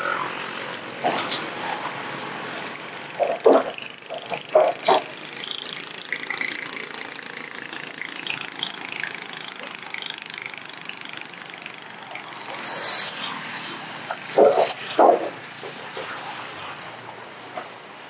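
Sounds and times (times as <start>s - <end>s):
nearer vehicle passing: 0.0s - 18.0s
road traffic drone: 0.0s - 18.0s.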